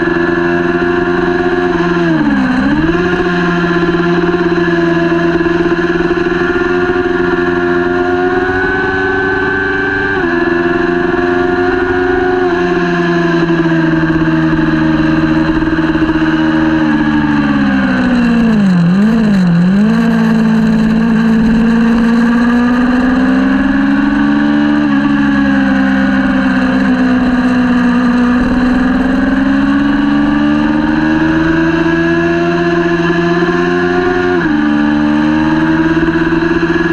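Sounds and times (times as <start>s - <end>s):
motorcycle engine revving high: 0.0s - 36.9s.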